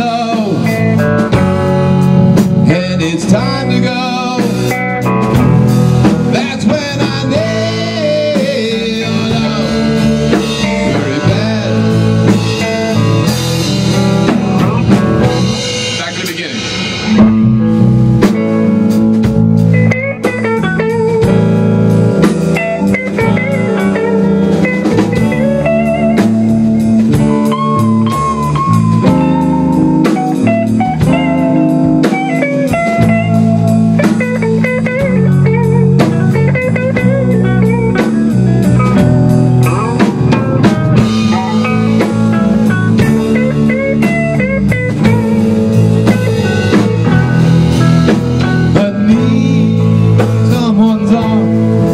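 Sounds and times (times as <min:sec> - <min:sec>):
bass guitar line: 0:00.0 - 0:51.9
drum kit: 0:00.0 - 0:51.9
electric guitar lead: 0:00.0 - 0:51.9.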